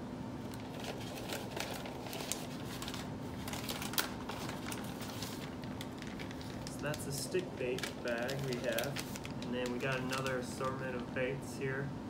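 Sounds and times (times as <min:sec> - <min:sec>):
plastic bag crinkling: 0:00.5 - 0:11.1.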